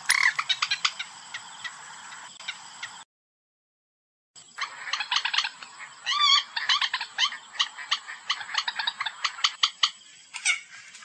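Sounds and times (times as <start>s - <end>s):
moorhen calling: 0.0s - 3.0s, 4.6s - 10.9s.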